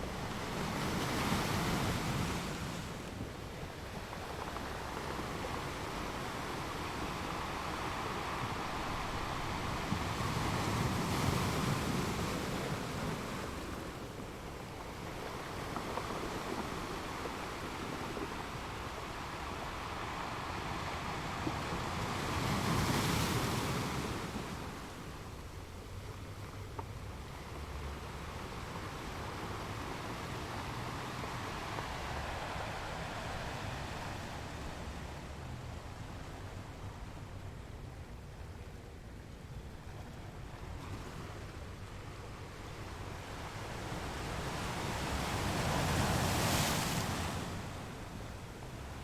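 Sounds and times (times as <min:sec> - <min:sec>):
sea waves washing onto shore: 0:00.0 - 0:26.0, 0:26.9 - 0:37.0, 0:42.9 - 0:49.0.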